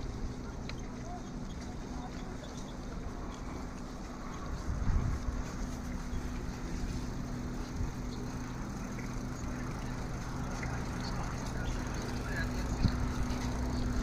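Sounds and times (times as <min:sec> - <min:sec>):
vehicle engine running steadily: 0:00.0 - 0:14.0.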